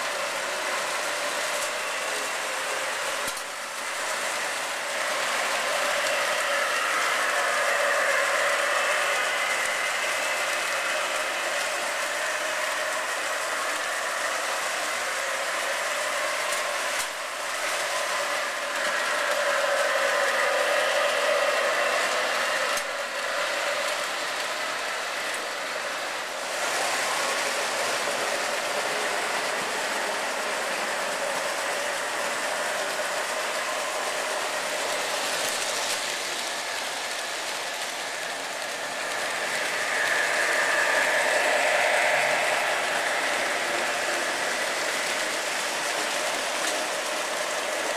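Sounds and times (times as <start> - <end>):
model train wheels clattering: 0.1 - 26.0, 26.7 - 47.9
electric motor and gear whine: 0.6 - 47.9.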